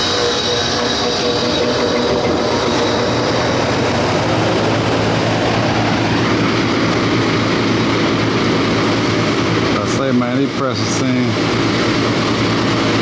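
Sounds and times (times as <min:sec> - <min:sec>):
compressor hum: 0:00.0 - 0:13.0
fan airflow noise: 0:00.0 - 0:13.0.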